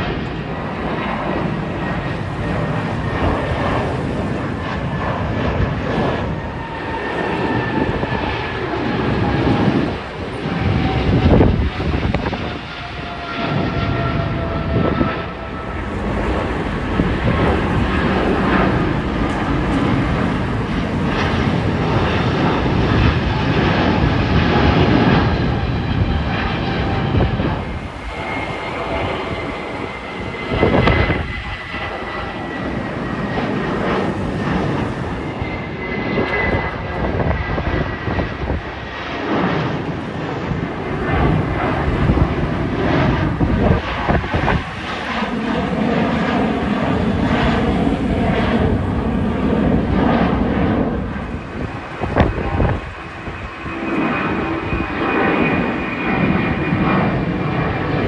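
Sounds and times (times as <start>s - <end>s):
jet airliner climbing roar: 0.0s - 58.0s.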